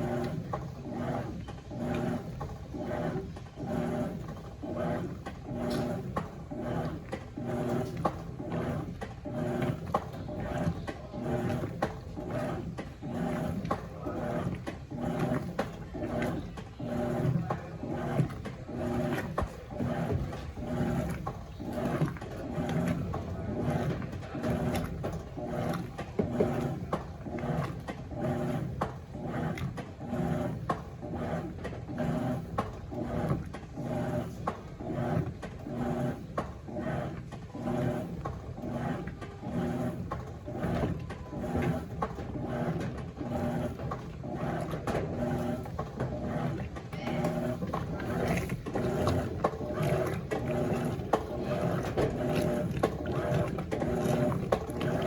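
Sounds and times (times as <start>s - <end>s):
motor hum: 0.0s - 55.0s
washing machine agitator swishing: 0.0s - 55.0s.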